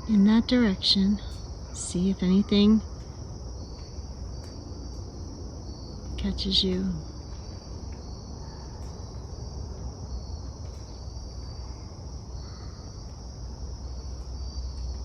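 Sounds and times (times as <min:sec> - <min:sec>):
chorus of crickets: 0:00.0 - 0:15.0.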